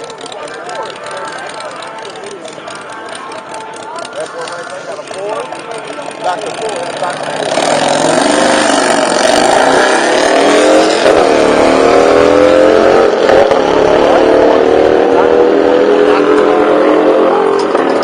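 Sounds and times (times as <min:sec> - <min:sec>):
drag racing car accelerating: 0:00.0 - 0:18.0.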